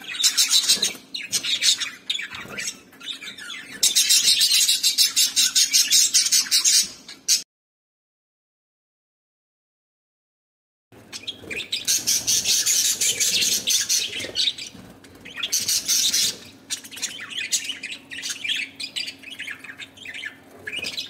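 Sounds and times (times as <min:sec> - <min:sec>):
budgerigars calling and chattering: 0:00.0 - 0:07.4, 0:11.0 - 0:21.0.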